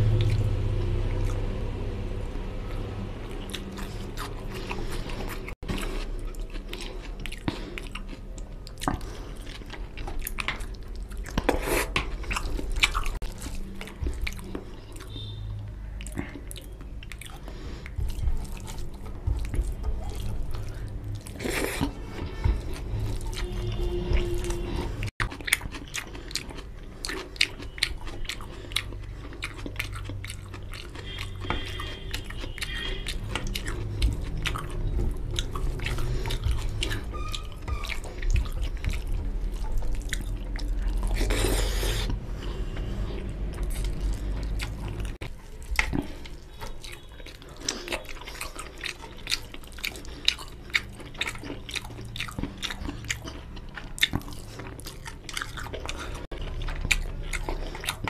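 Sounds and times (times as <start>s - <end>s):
chewing with wet mouth smacks: 0.0s - 1.6s, 2.6s - 58.0s.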